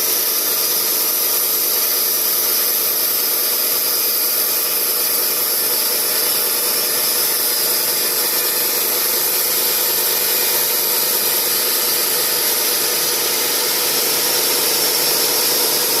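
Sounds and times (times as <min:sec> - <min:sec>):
chainsaw cutting log: 0:00.0 - 0:16.0.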